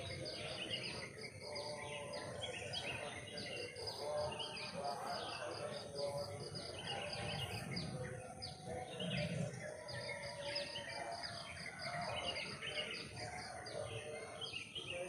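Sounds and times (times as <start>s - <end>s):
birds calling: 0.0s - 15.0s
low noisy background: 0.0s - 15.0s.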